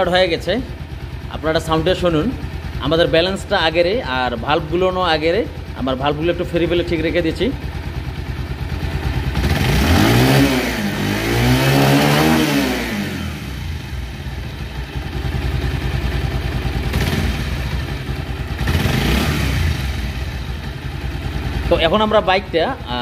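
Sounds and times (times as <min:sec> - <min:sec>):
motorcycle engine revving and idling: 0:00.0 - 0:23.0.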